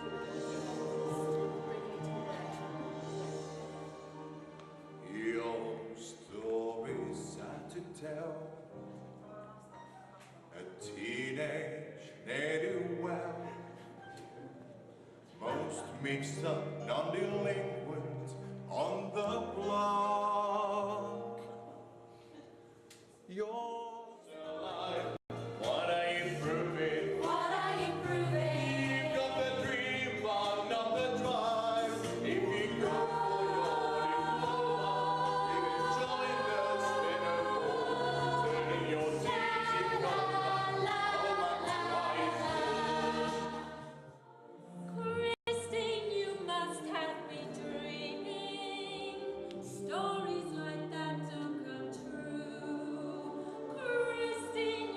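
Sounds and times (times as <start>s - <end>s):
vocal ensemble singing in harmony: 0.0s - 8.9s, 10.6s - 22.4s, 24.1s - 54.9s.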